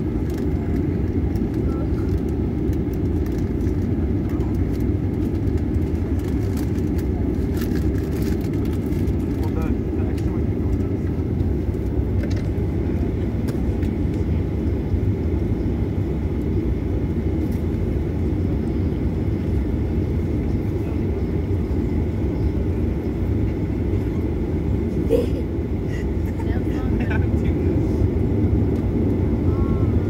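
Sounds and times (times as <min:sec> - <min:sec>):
aircraft cabin low rumble: 0:00.0 - 0:30.0.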